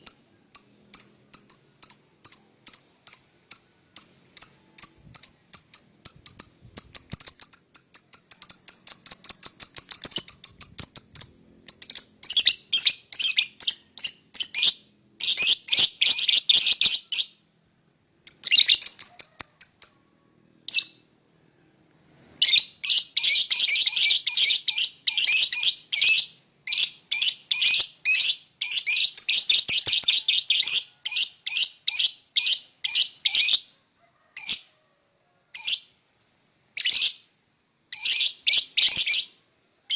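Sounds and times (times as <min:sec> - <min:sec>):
lovebird chirping: 0:00.0 - 0:17.5, 0:18.2 - 0:21.2, 0:22.4 - 0:33.7, 0:36.8 - 0:39.9.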